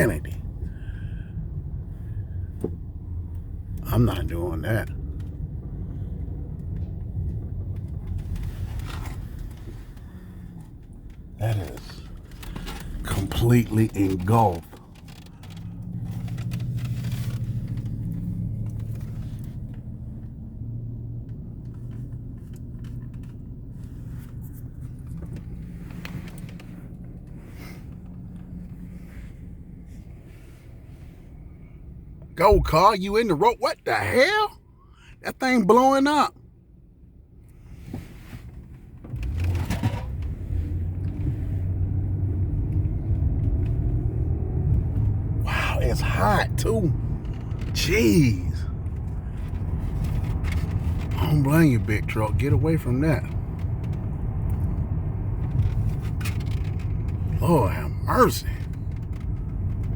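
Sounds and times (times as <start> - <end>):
truck engine droning: 0.0 - 36.3, 39.1 - 59.9.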